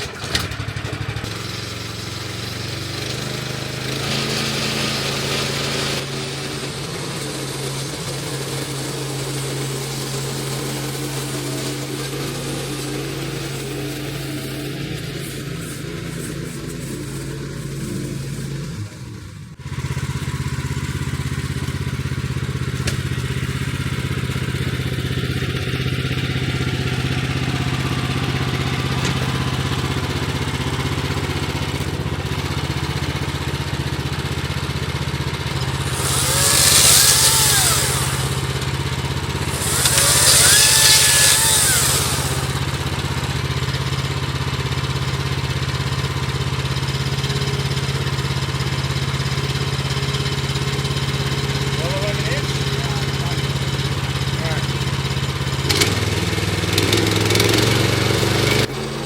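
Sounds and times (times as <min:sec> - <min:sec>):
bandsaw mill gas engine running: 0:00.0 - 0:59.0.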